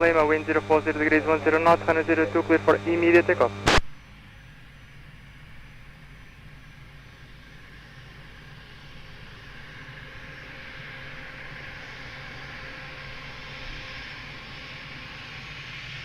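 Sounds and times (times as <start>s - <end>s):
distant jet engines hissing: 0.0s - 16.0s.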